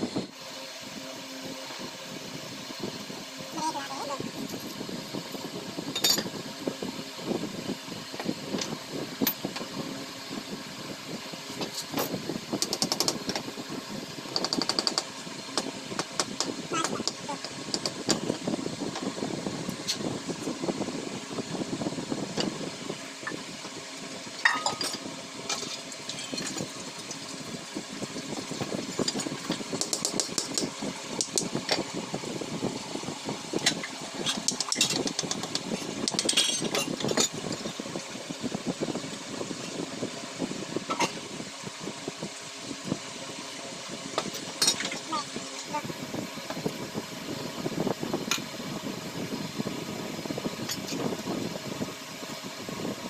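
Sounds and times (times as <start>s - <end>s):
steady mechanical hum: 0.0s - 53.0s.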